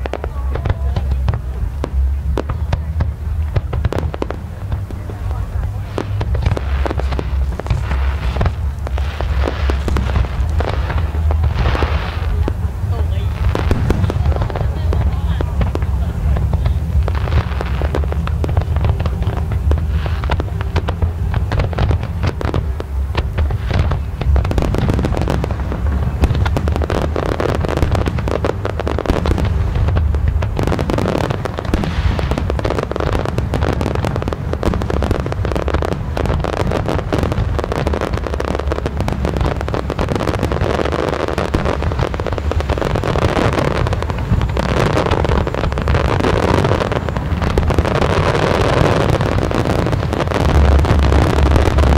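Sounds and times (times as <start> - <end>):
fireworks bangs and crackles: 0.0 - 51.9
steady low rumble: 0.0 - 51.9.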